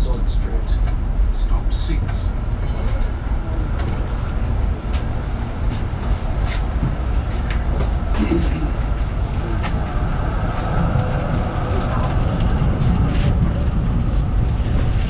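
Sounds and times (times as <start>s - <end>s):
low tram rumble: 0.0s - 15.0s.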